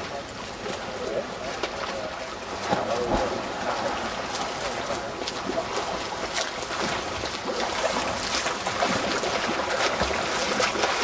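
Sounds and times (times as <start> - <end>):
swimmers splashing in water: 0.0 - 11.0.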